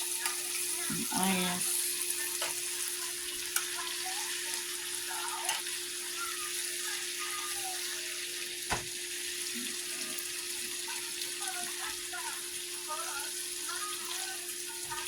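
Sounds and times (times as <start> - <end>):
steaks sizzling in a frying pan: 0.0 - 15.0.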